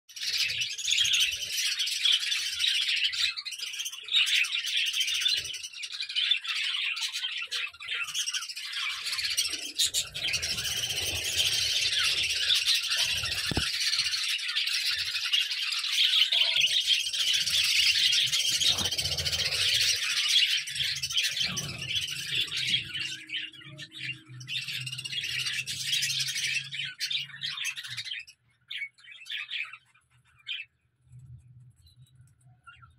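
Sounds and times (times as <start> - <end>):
budgerigars chattering and chirping: 0.2 - 30.8.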